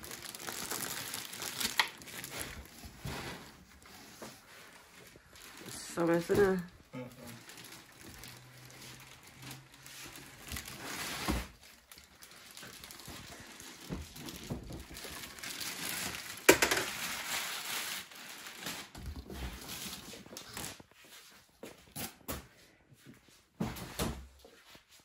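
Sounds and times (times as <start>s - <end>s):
packaging rustling and crinkling: 0.0s - 21.5s.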